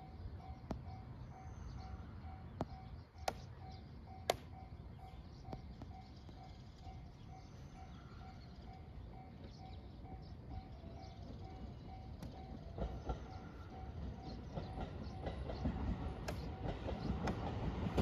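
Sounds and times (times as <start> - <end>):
level-crossing warning bell: 0.0 - 17.3.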